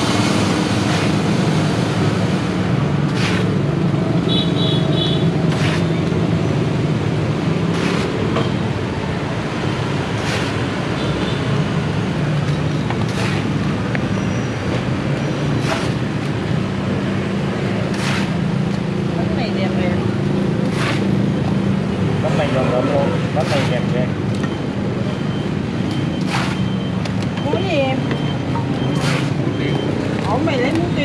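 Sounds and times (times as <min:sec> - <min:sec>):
street traffic din: 0:00.0 - 0:31.0.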